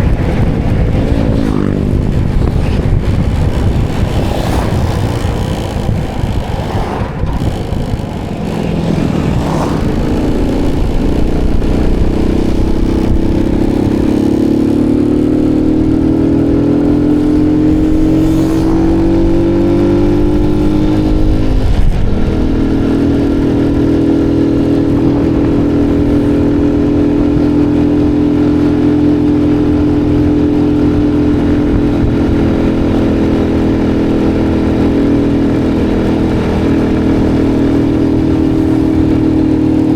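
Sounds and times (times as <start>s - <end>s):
motorbike engine accelerating: 0.0s - 39.9s.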